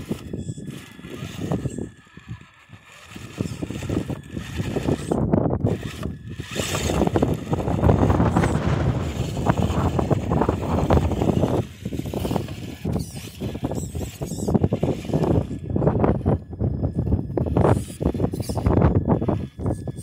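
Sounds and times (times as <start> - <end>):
rc car driving through gravel: 0.0 - 16.4, 17.0 - 20.0
wind buffeting microphone: 0.0 - 20.0.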